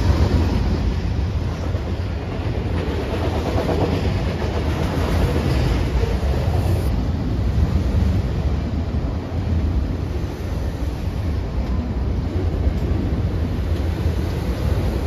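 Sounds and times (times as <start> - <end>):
commuter train passing rumble: 0.0 - 15.0.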